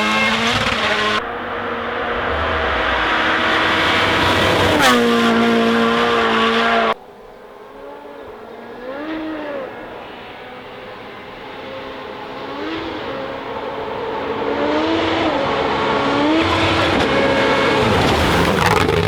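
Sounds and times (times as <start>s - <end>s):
car rushing past: 0.0s - 7.0s, 9.3s - 19.0s
rally car engine accelerating: 0.0s - 19.0s.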